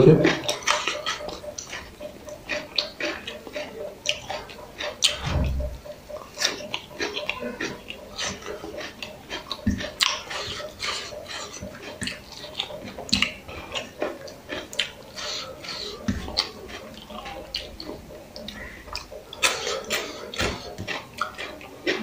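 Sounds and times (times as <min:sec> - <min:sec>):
fingers mixing rice on steel plate: 0:00.0 - 0:22.0
person chewing and lip-smacking: 0:00.0 - 0:22.0.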